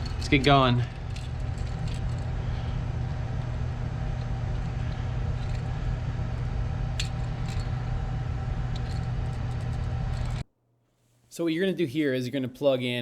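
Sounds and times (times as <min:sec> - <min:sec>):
low mechanical hum: 0:00.0 - 0:10.5.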